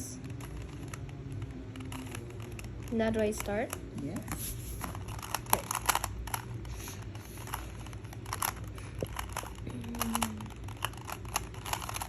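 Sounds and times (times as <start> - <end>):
puzzle cube clicking: 0.2 - 6.7, 7.4 - 12.0.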